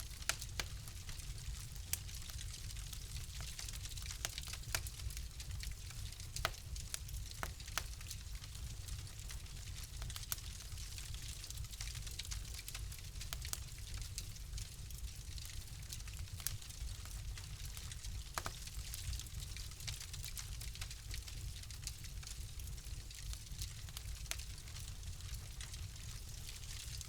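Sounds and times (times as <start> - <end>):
fire crackling and popping: 0.0 - 27.0
low rumble and hiss of fire: 0.0 - 27.0.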